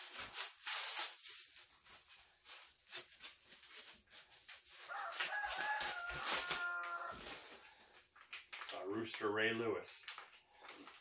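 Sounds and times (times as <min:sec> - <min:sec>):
wrapping crinkling: 0:00.0 - 0:11.0.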